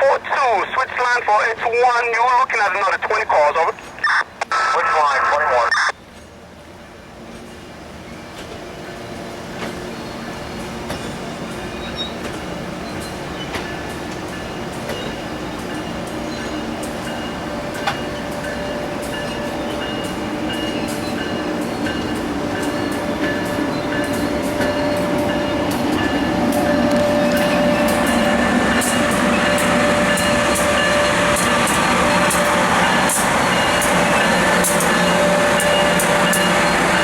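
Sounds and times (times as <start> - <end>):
train rolling on rails: 5.3 - 37.0.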